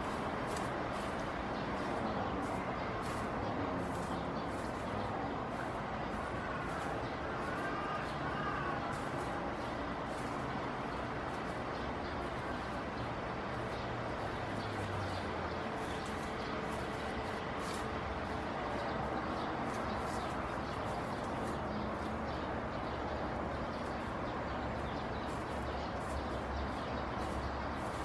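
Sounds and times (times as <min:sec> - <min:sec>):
dry leaves rustling and crackling: 0:00.0 - 0:28.0.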